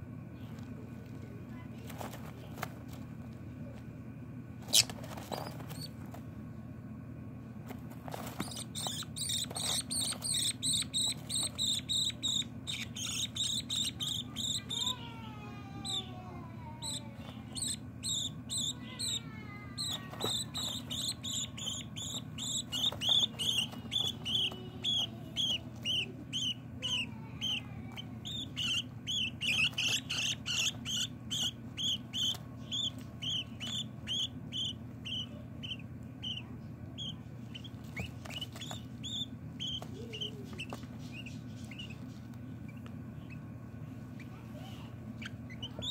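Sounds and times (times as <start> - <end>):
budgerigar chicks chirping: 4.6 - 6.2, 8.1 - 45.9.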